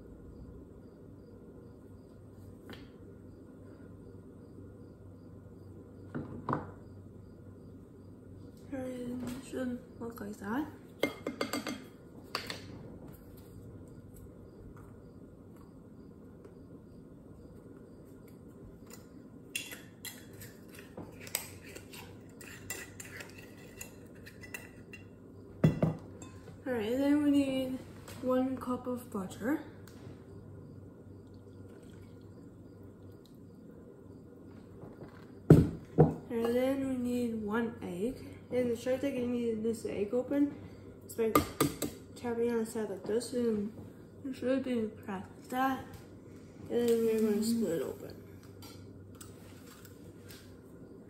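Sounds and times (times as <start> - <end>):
faint cricket chirping: 0.0 - 51.0
low steady hum: 0.0 - 51.0.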